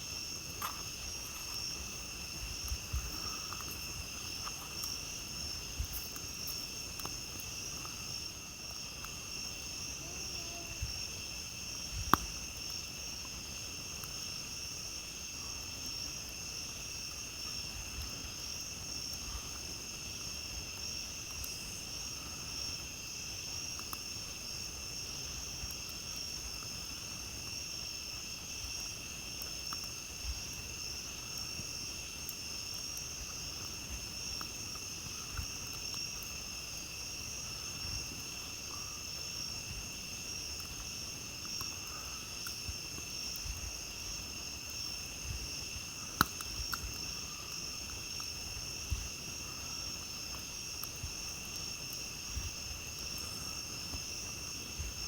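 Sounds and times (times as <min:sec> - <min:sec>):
campfire crackling: 0:00.0 - 0:55.0
crickets trilling: 0:00.0 - 0:55.0.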